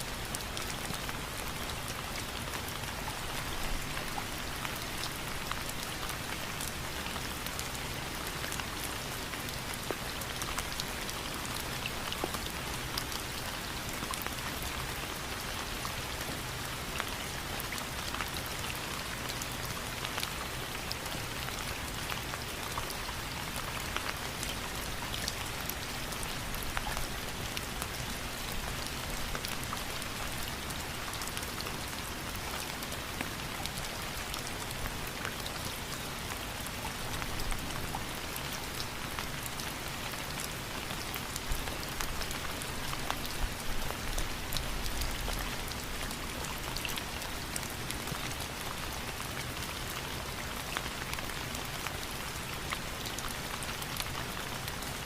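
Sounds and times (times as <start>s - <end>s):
steady rain falling: 0.0s - 55.0s
raindrops ticking on a surface: 0.1s - 55.0s.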